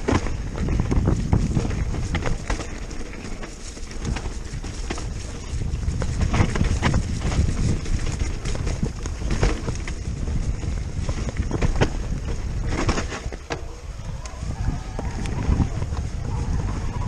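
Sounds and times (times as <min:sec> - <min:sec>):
bike rattles and knocks: 0:00.0 - 0:17.0
wind buffeting microphone: 0:00.0 - 0:17.0.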